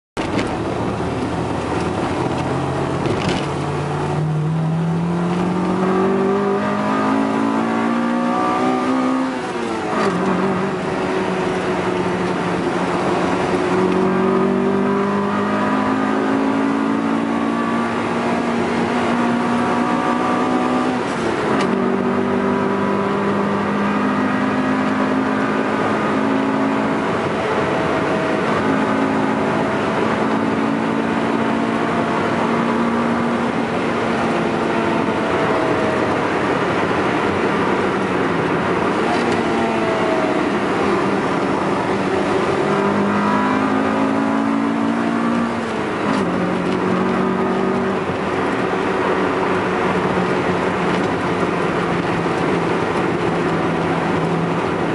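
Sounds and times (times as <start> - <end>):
car engine accelerating through gears: 0.2 - 54.9
road noise: 0.2 - 54.9.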